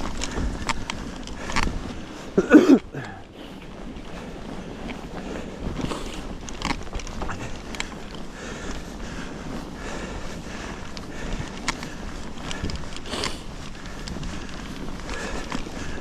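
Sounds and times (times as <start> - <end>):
bike tyres rustling through snow: 0.0 - 16.0
wind rumble on microphone: 0.0 - 16.0.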